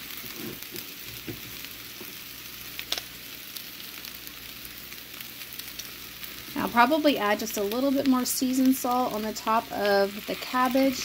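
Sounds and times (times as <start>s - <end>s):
food sizzling in a skillet: 0.0s - 11.0s
grease crackles: 0.0s - 11.0s.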